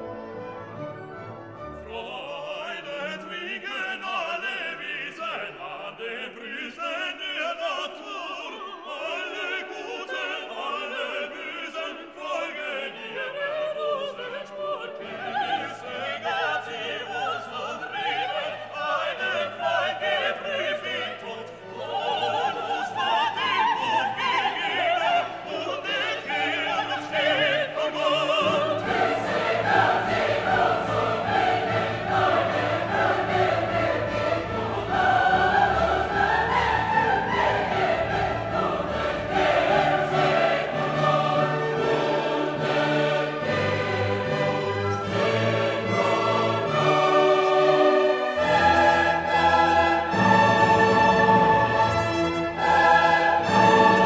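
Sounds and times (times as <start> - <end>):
operatic singing with choir and orchestra: 0.0 - 54.0.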